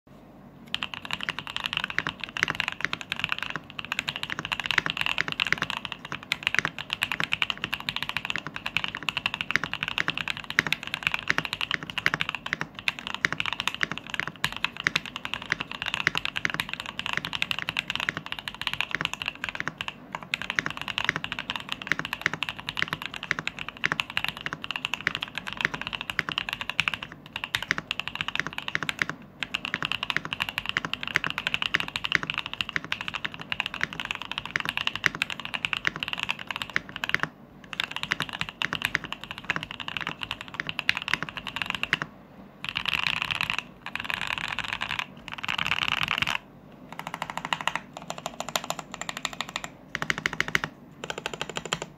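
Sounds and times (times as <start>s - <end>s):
fast typing on mechanical keyboard: 0.7s - 51.9s.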